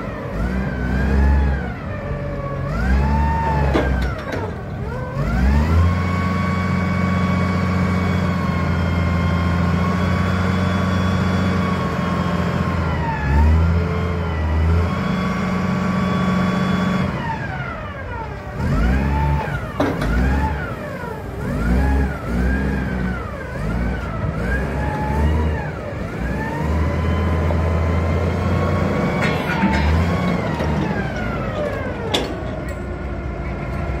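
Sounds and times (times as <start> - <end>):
forklift diesel engine revving: 0.0 - 34.0.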